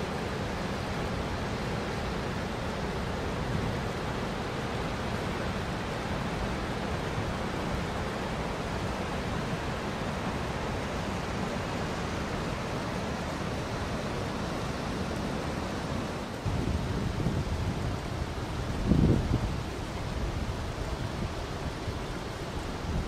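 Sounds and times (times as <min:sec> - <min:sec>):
river rapids roaring: 0:00.0 - 0:23.0.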